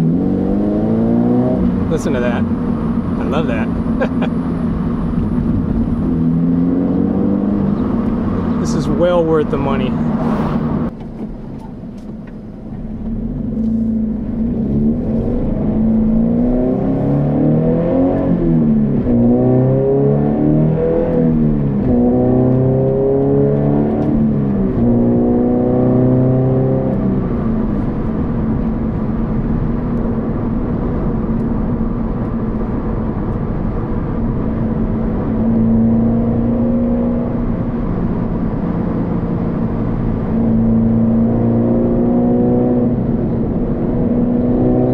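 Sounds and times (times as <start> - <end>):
car exhaust accelerating through gears: 0.0 - 44.9.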